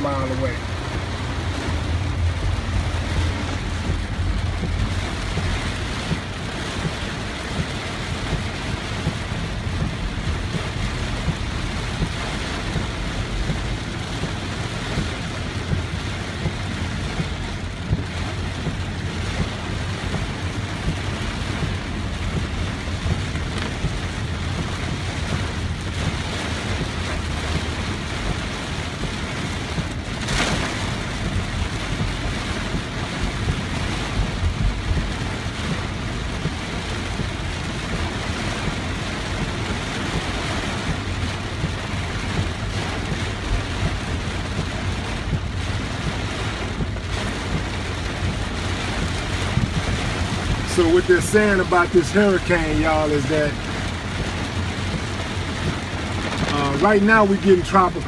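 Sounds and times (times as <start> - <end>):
heavy rain on a car: 0.0 - 58.0
low driving rumble: 0.0 - 58.0.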